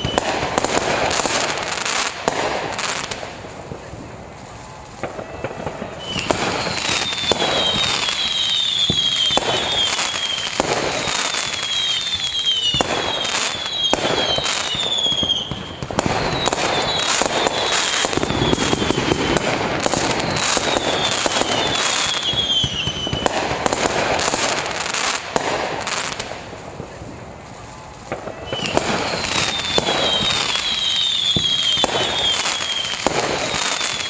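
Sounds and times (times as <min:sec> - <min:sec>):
fireworks bangs and crackling: 0:00.0 - 0:34.0
fireworks whistles falling in pitch: 0:00.0 - 0:34.0.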